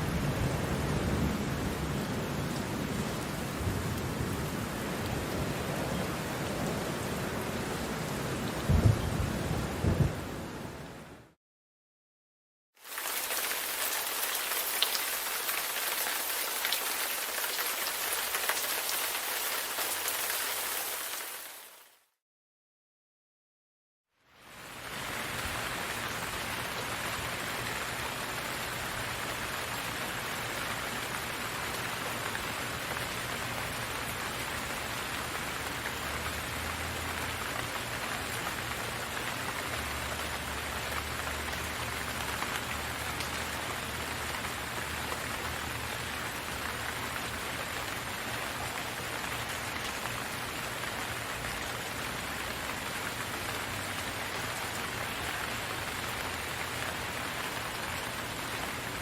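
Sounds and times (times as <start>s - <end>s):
rain falling steadily: 0.0s - 11.4s, 12.8s - 22.1s, 24.2s - 59.0s.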